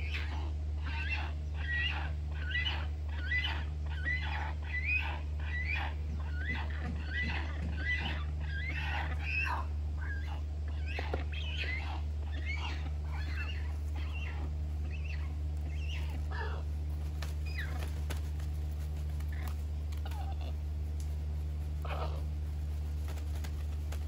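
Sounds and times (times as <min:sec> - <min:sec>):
birds chirping: 0:00.0 - 0:24.0
steady low hum: 0:00.0 - 0:24.0.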